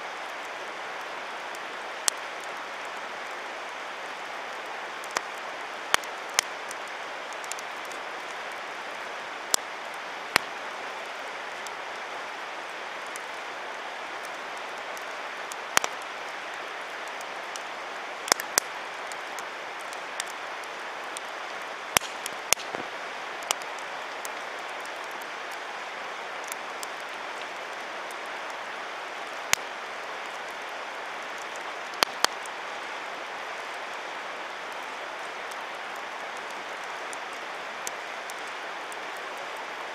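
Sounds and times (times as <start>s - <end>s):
campfire crackling: 0.0s - 39.9s
fire popping: 0.2s - 11.8s, 14.0s - 25.8s, 26.4s - 28.7s, 29.3s - 32.6s, 34.7s - 38.6s.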